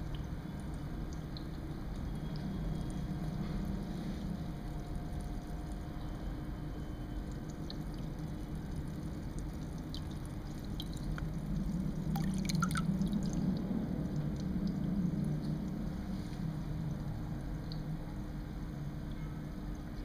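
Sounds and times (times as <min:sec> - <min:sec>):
steady low hum: 0:00.0 - 0:20.0
water drips and splashes: 0:00.0 - 0:20.0.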